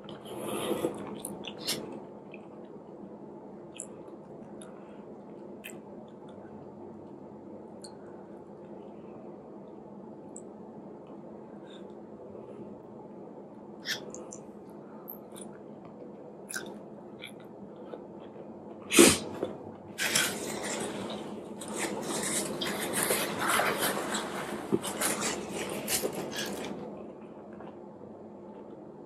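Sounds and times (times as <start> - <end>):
crackly chewing and handling noise: 0.0 - 12.8, 13.6 - 28.9.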